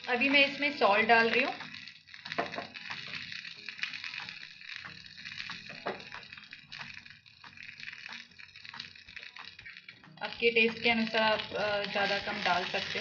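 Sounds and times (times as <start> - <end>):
oil crackles and pops: 0.0 - 13.0
spices sizzling in hot oil: 0.0 - 13.0.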